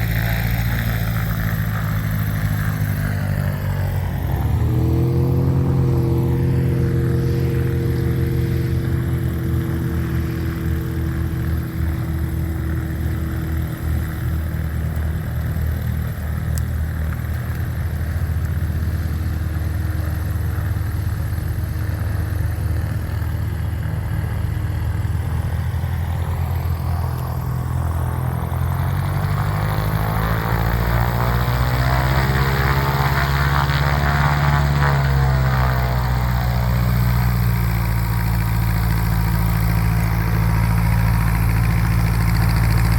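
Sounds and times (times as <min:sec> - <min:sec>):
propeller aircraft engine: 0:00.0 - 0:42.9.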